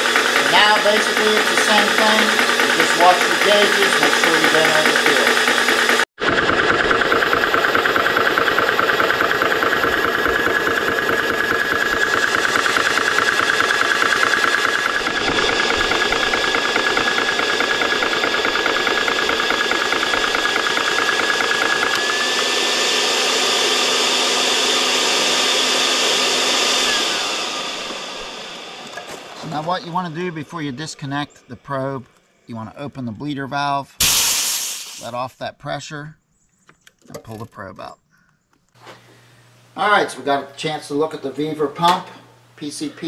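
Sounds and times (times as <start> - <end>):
air compressor running: 0.0 - 30.8, 34.0 - 35.1, 38.8 - 43.0.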